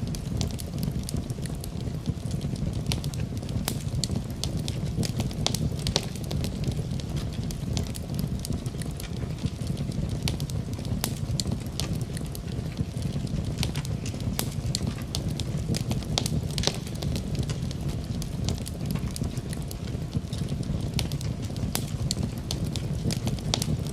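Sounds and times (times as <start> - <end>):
campfire crackling and popping: 0.0 - 23.9
low rumble of burning: 0.0 - 23.9.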